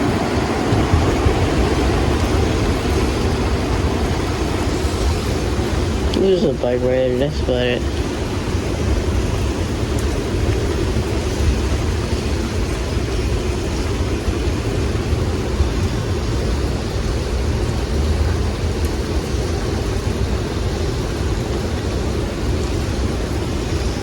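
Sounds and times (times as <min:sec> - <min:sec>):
rain: 0:00.0 - 0:24.0
strong storm wind: 0:00.0 - 0:24.0.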